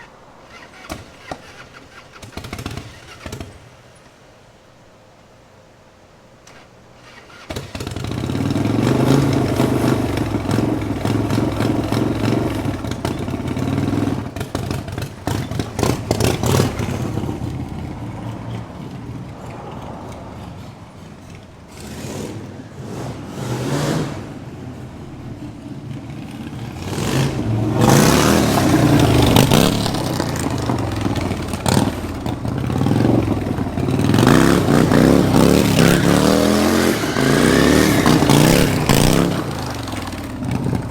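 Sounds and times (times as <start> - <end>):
go-kart engine revving: 0.0 - 4.0, 6.4 - 40.9.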